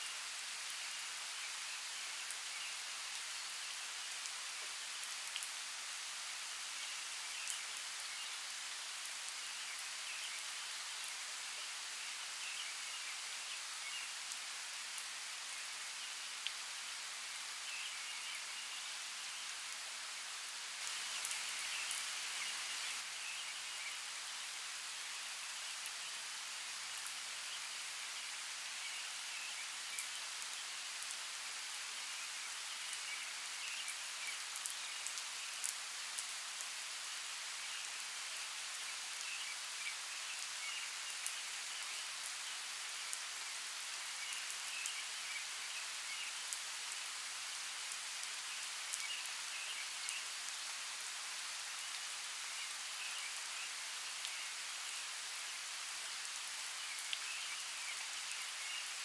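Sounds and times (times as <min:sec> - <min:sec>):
rain falling: 0:00.1 - 0:59.0.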